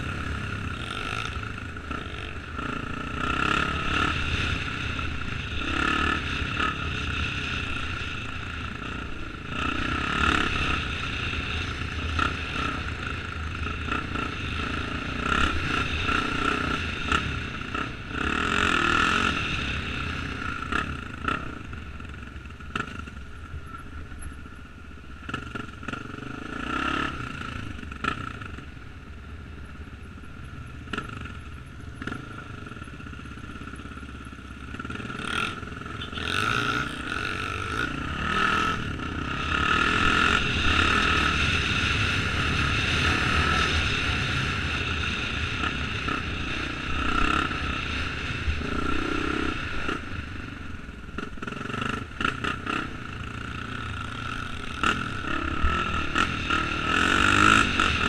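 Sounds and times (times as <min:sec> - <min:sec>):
motorcycle engine revving: 0:00.0 - 0:24.6, 0:25.2 - 0:28.9, 0:29.6 - 0:58.0.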